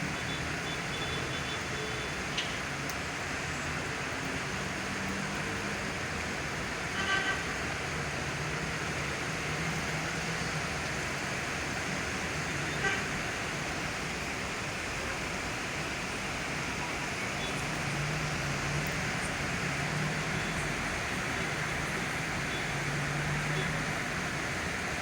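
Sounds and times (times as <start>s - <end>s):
rain hissing: 0.0s - 25.0s
traffic on wet street: 0.0s - 25.0s.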